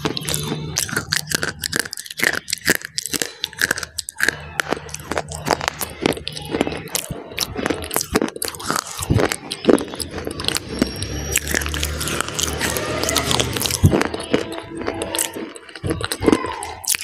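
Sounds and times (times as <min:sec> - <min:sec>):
crunchy biting and chewing: 0:00.0 - 0:17.0.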